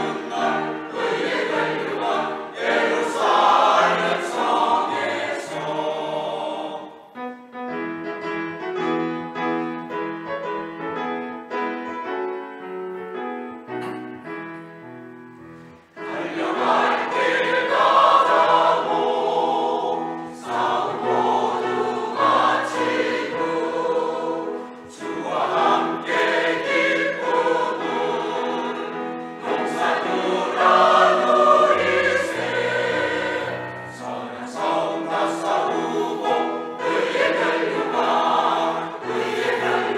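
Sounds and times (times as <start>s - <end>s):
church choir singing: 0.0s - 7.9s, 15.6s - 39.9s.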